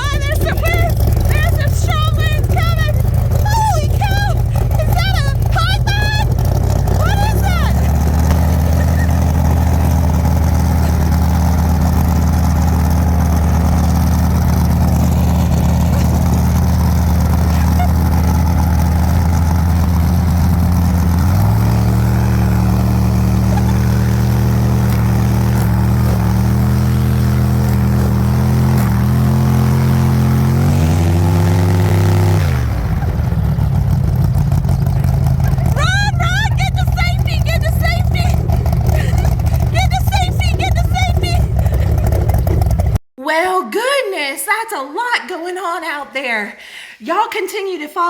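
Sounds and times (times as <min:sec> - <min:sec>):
engine running and revving: 0:00.0 - 0:43.0.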